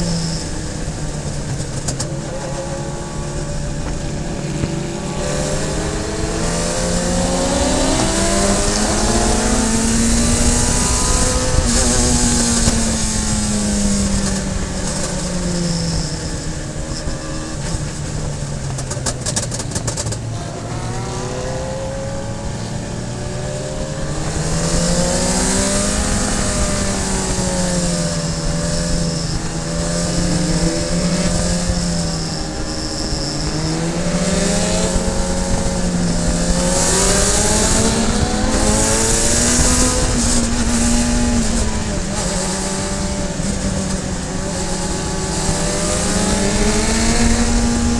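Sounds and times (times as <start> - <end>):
race car engine under load: 0.0 - 47.9.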